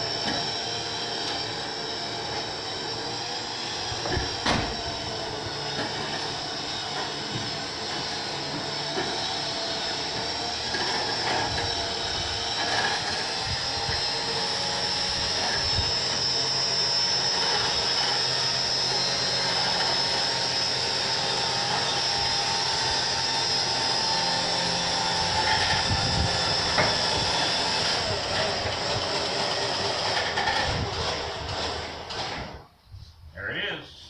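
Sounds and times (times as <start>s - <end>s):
electric winch whining: 0.0s - 32.7s.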